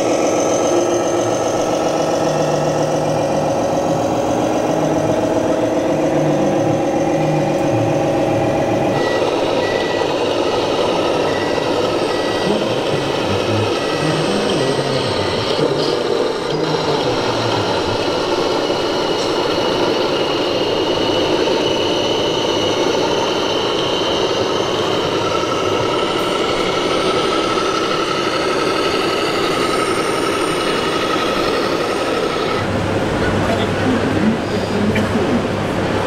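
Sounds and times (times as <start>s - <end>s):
constant din: 0.0s - 35.5s
model truck engine running: 0.0s - 36.0s.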